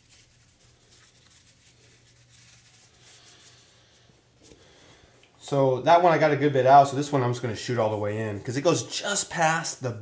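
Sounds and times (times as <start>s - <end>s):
paper towel rustling: 0.0s - 5.0s, 6.8s - 9.9s.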